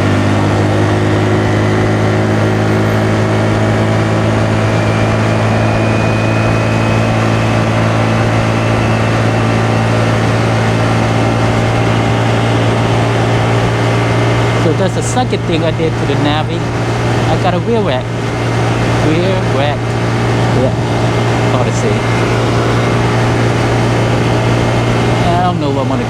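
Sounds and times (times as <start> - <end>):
small motorcycle engine droning: 0.0 - 26.0.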